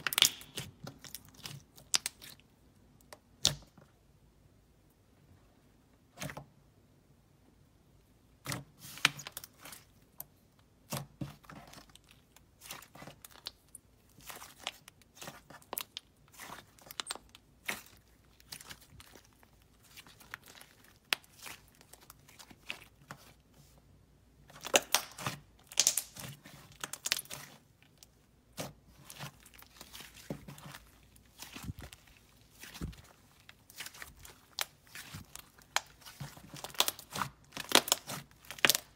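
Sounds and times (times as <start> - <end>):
slime squishing and crackling: 0.0 - 3.8, 8.4 - 23.8, 24.4 - 38.9.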